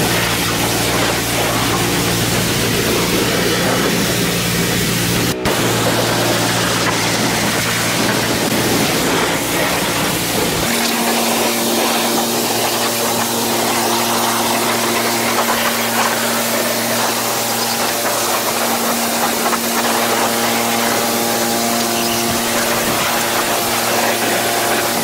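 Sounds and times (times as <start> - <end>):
pressure washer water spray hissing: 0.0 - 25.0
pump drone: 0.0 - 25.0.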